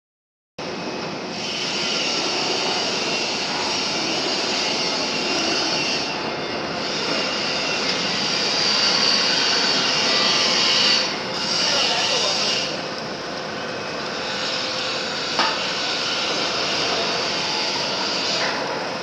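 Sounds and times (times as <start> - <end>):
machinery hiss and hum: 0.6 - 19.0.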